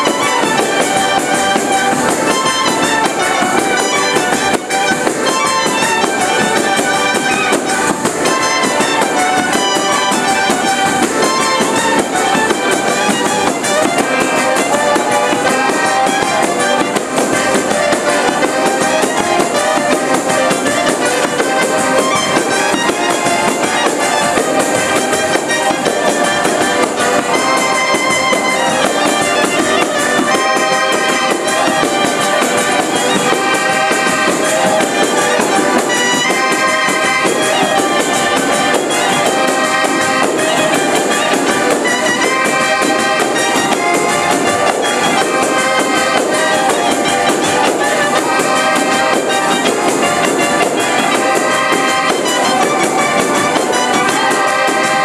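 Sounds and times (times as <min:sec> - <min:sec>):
accordions: 0:00.0 - 0:55.0
jingling tambourines: 0:00.0 - 0:55.0
trumpet: 0:00.0 - 0:55.0
woodwind: 0:00.0 - 0:55.0.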